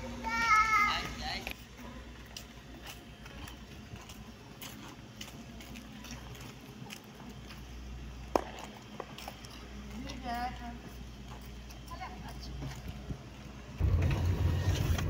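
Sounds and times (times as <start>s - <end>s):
faint footsteps on concrete: 0.1s - 13.8s.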